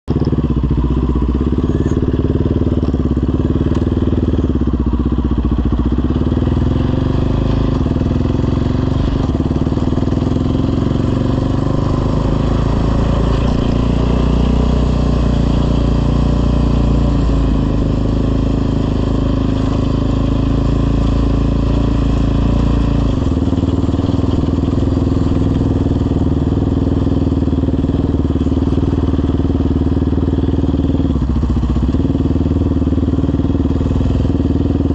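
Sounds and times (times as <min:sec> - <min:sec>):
quad engine running: 0:00.1 - 0:34.9.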